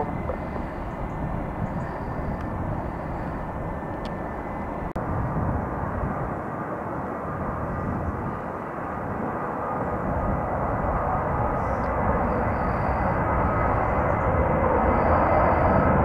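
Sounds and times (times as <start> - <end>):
aircraft engines running: 0.0 - 16.0.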